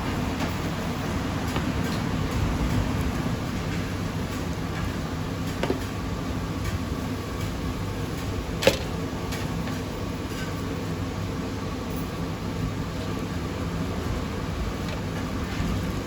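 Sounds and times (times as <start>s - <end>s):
low rumble of street-food stall: 0.0s - 16.0s.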